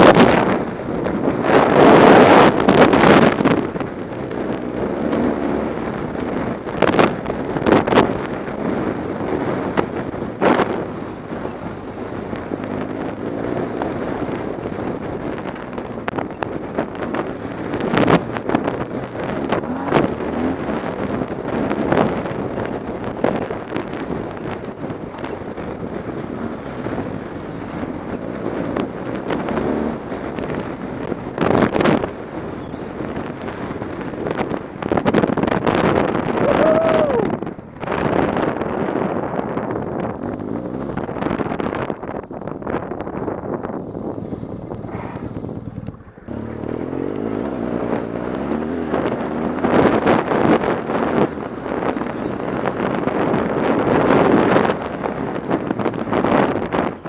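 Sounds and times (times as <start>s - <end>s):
motorcycle engine: 0.0s - 57.0s
wind buffeting microphone: 0.0s - 57.0s.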